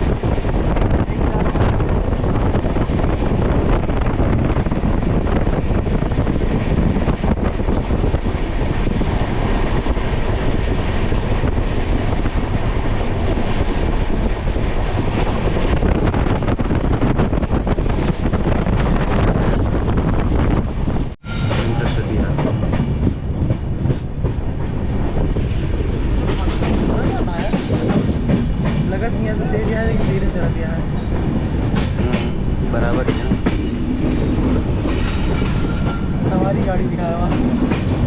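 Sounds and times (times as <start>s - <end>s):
moving train running noise: 0.0s - 38.0s
wind buffeting microphone: 0.0s - 38.0s.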